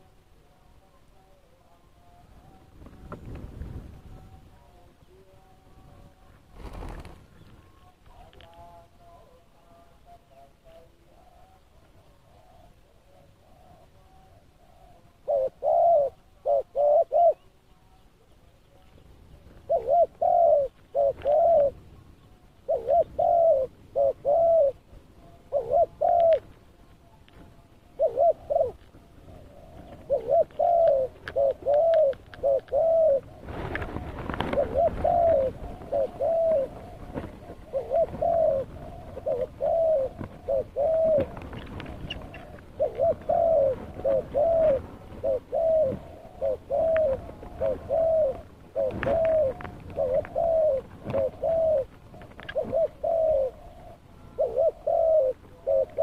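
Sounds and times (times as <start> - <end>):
dove cooing: 6.6 - 26.8, 27.4 - 56.0.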